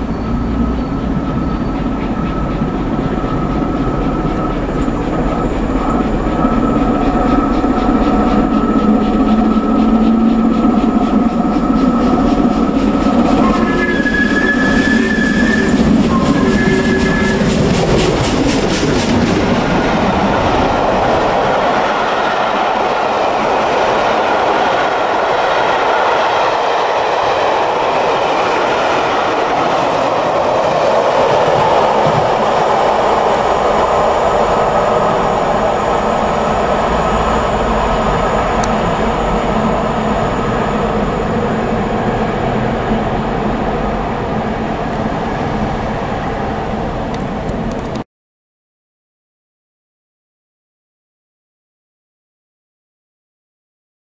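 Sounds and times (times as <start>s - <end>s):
train wheels on rails: 0.0s - 48.0s.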